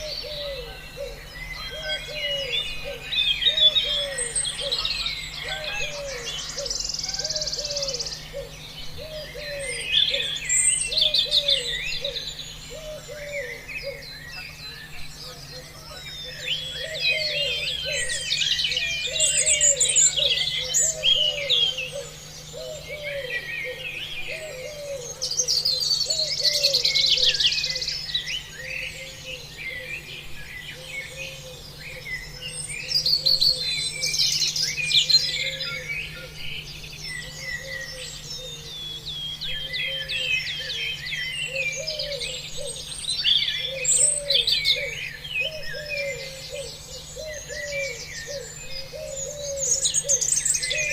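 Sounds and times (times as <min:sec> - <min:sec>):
birds chirping and singing: 0:00.0 - 0:50.9
low repeating bird call: 0:00.0 - 0:50.9.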